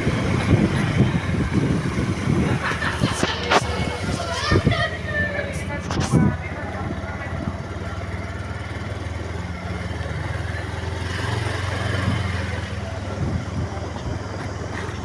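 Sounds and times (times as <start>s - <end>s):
road and traffic noise: 0.0s - 15.0s
vehicle engine running: 0.0s - 15.0s.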